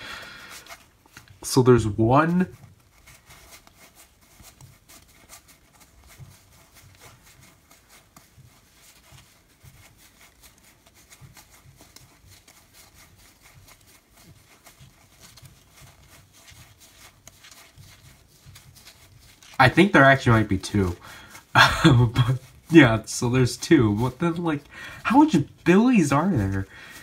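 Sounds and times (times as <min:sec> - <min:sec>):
playing cards clicking and rustling: 0:02.3 - 0:27.0.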